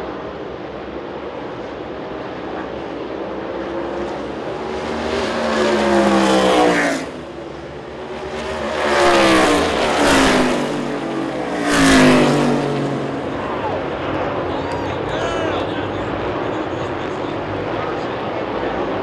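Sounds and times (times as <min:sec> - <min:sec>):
race cars passing at speed: 0:00.1 - 0:19.0.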